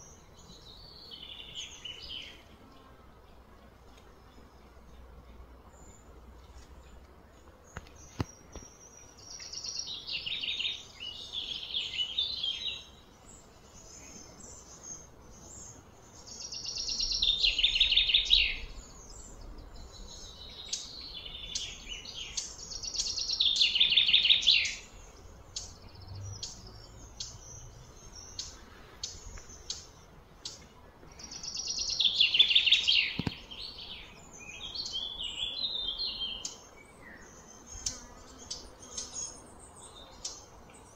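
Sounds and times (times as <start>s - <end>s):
bird chirps: 7.7s - 40.9s
birds singing trilled phrases: 7.7s - 40.9s.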